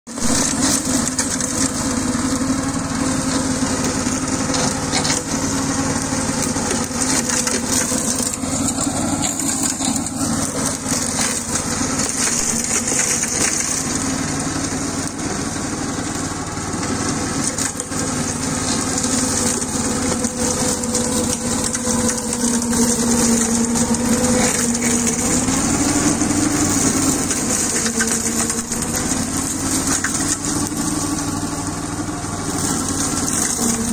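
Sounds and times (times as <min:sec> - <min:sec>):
chain slasher cutting weeds: 0:00.1 - 0:33.9
tractor diesel engine running: 0:00.1 - 0:33.9.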